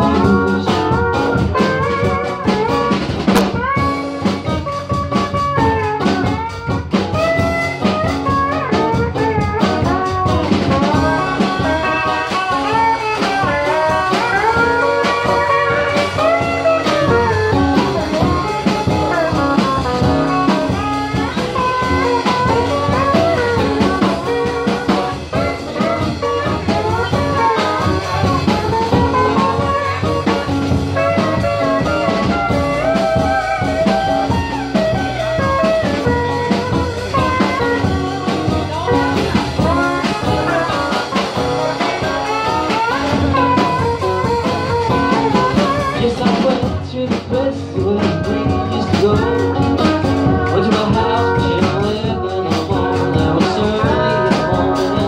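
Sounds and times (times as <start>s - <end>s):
acoustic bass: 0.0s - 55.0s.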